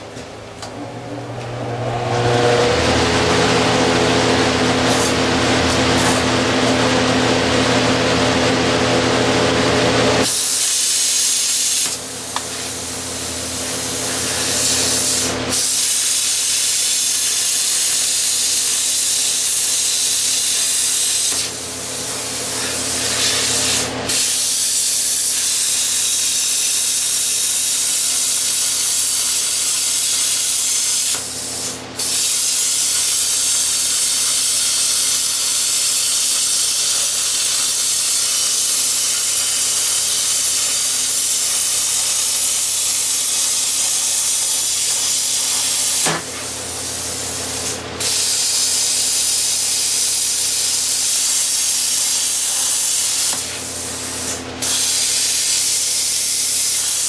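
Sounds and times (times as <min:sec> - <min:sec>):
plasma cutter arc hissing: 0:04.8 - 0:05.2, 0:10.2 - 0:57.0.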